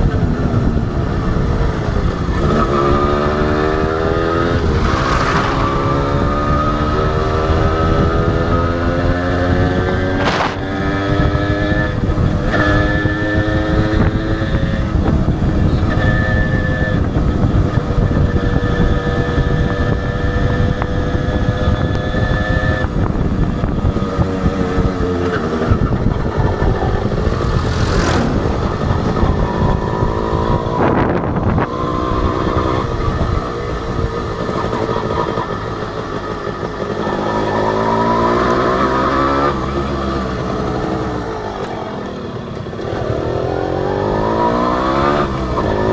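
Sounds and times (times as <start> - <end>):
two-stroke motorcycle engine revving: 0.0 - 45.9.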